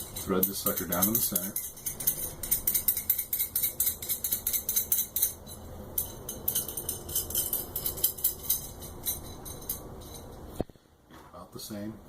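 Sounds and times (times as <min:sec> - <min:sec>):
nut rattling on threaded rod: 0:00.0 - 0:10.3.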